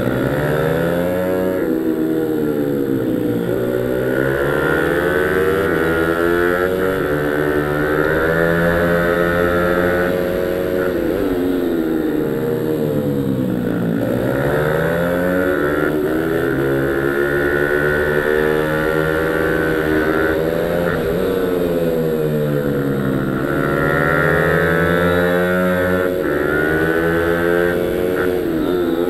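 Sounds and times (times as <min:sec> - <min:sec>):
small motorbike engine revving: 0:00.0 - 0:29.0.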